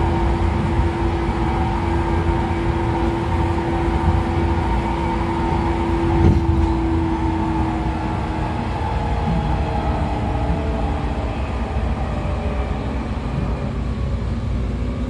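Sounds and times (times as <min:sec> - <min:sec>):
traction motor whine: 0:00.0 - 0:13.6
train bogies rumbling on rails: 0:00.0 - 0:15.0.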